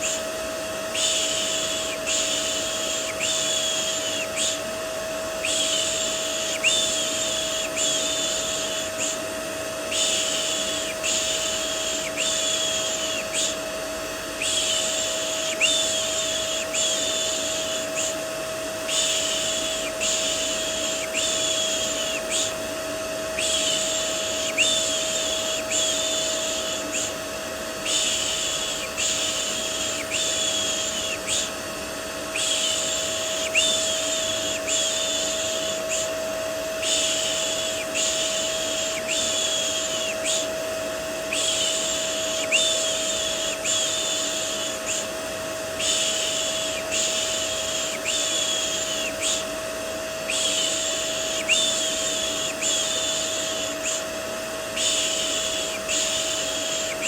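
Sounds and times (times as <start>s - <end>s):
vacuum cleaner humming: 0.0s - 57.0s.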